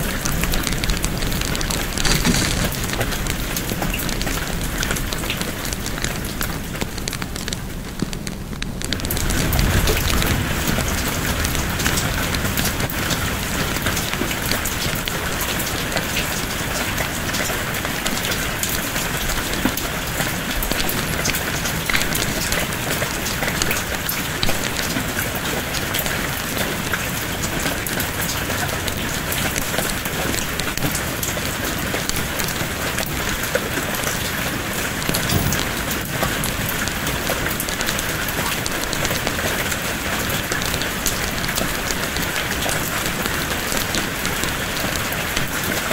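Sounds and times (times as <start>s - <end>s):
steady rain hiss: 0.0s - 45.9s.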